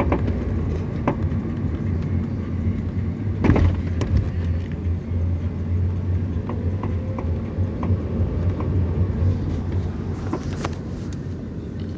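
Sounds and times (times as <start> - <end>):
car engine low rumble: 0.0 - 11.9.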